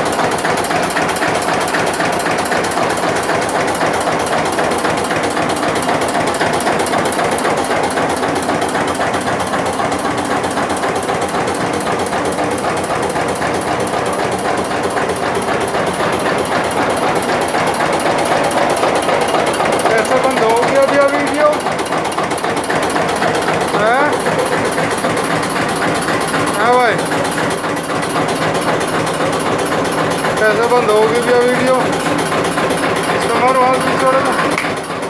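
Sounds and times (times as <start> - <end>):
tractor diesel engine knocking: 0.0 - 35.0.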